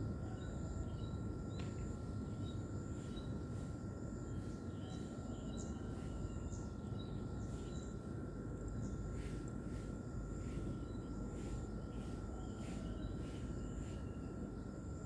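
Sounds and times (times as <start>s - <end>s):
high insect tone: 0.0s - 15.0s.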